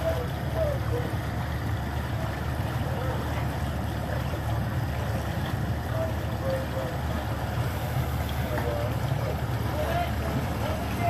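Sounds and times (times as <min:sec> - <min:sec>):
boat engine humming: 0:00.0 - 0:11.0
water noise: 0:00.0 - 0:11.0.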